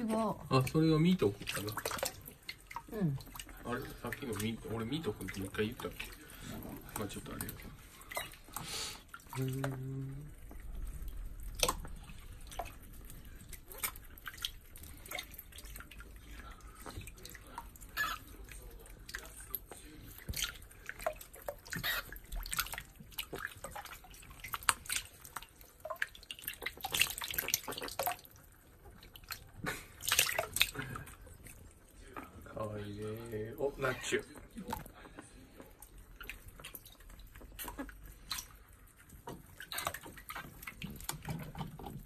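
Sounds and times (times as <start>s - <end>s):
small splashes in sink water: 0.0s - 42.0s.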